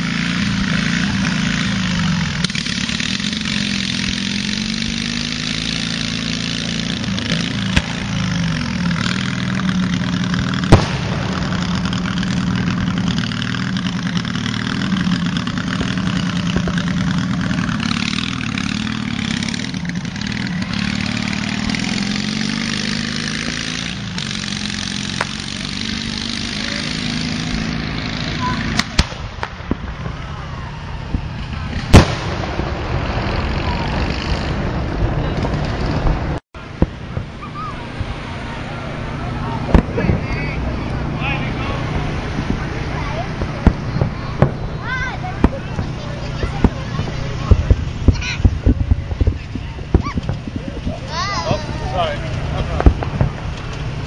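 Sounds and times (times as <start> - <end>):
sharp bangs: 0.0 - 38.5, 39.1 - 54.0
engine running: 0.0 - 54.0.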